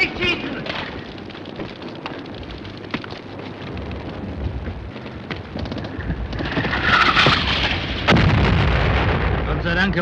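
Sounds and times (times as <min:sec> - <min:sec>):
distant shelling rumble: 0:00.0 - 0:10.0.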